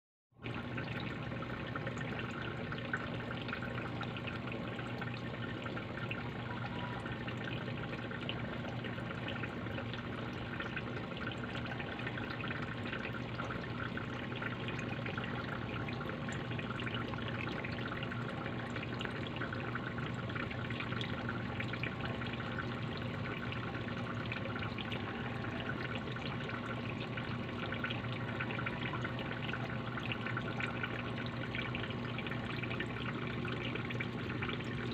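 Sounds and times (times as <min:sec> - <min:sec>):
low steady hum: 0:00.4 - 0:34.9
water trickling and dripping: 0:00.4 - 0:34.9.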